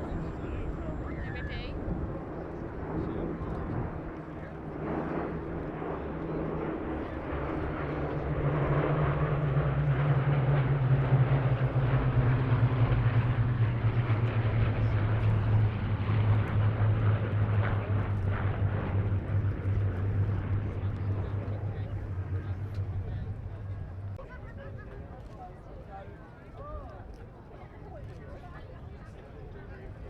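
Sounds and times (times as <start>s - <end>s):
propeller plane engine droning: 0.0s - 30.0s.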